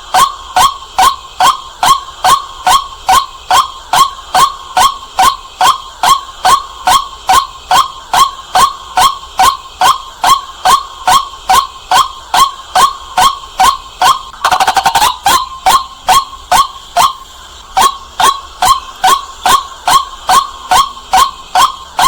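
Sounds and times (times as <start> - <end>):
bird calling harsh notes: 1.4 - 22.0.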